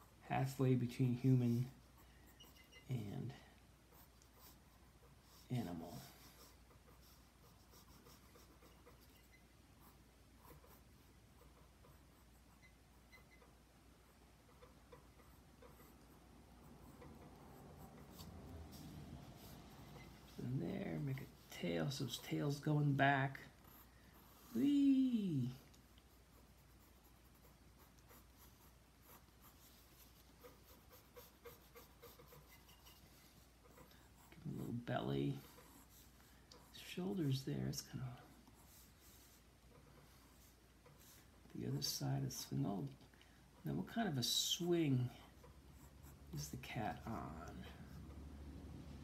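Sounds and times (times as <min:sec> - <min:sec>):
pencil scratching on paper: 0:00.0 - 0:24.8, 0:25.4 - 0:42.5, 0:45.3 - 0:48.2.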